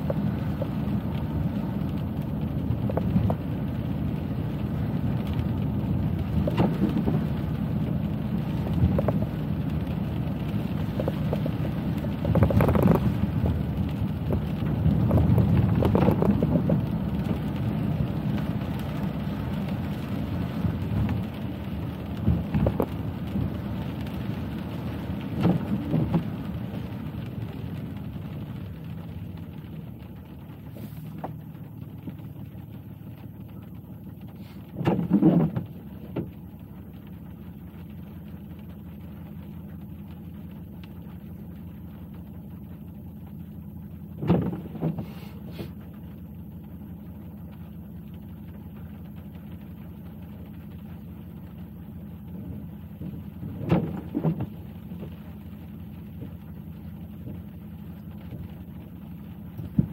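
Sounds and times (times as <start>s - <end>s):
rain: 0.0s - 59.9s
road and engine rumble: 0.0s - 59.9s
tyres swishing through water: 0.0s - 59.9s.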